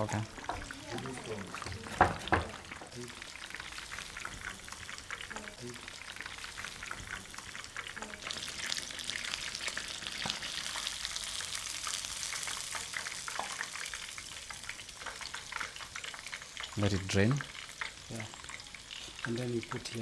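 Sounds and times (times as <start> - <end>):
chicken frying in hot oil: 0.0 - 20.0.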